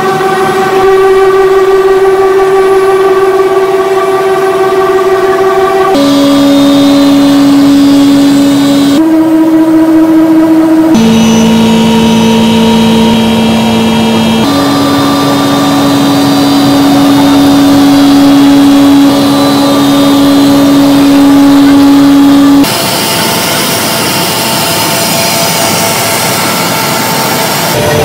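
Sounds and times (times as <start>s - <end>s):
production line machinery hum: 0.0s - 28.0s.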